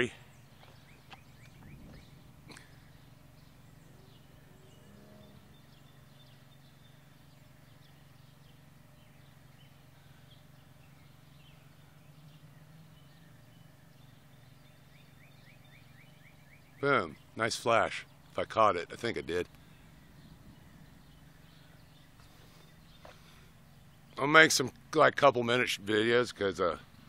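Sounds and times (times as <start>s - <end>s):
faint bird chirps: 0.0s - 18.4s, 19.4s - 24.2s
steady low hum: 0.0s - 27.0s.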